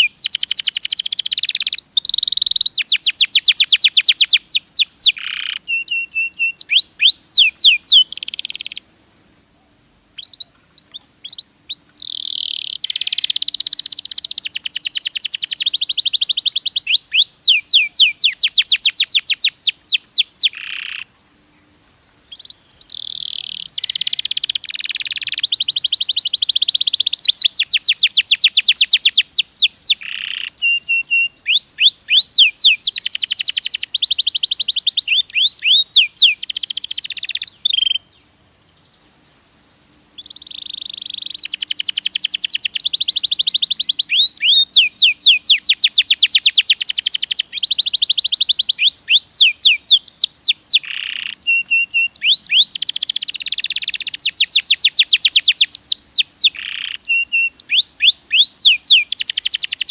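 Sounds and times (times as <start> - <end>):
canary singing trills: 0.0 - 8.9, 10.2 - 21.1, 22.2 - 38.9, 40.1 - 59.9.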